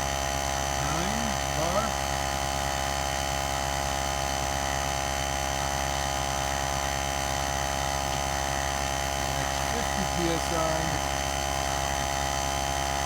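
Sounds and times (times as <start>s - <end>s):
air compressor motor humming: 0.0s - 13.0s.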